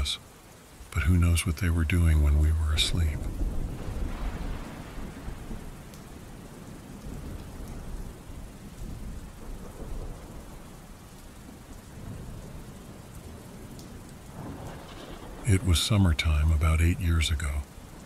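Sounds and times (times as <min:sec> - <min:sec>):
steady rain falling: 0:00.0 - 0:18.0
low thunder rumble: 0:02.2 - 0:18.0.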